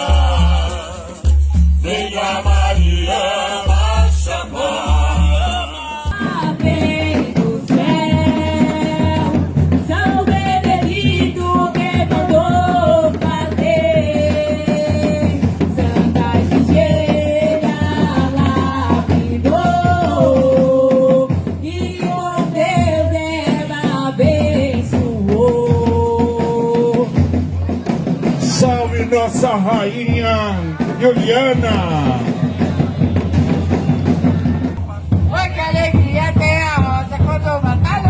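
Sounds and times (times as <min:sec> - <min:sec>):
drum rhythm: 0:00.0 - 0:38.0.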